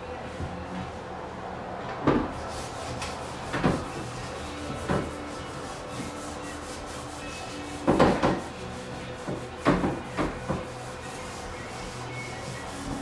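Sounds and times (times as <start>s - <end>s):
scraping strokes of handwork: 2.4s - 13.0s.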